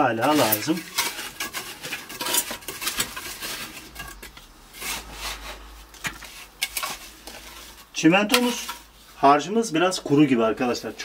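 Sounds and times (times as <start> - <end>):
mortar scraping under toilet pan: 0.0 - 9.2.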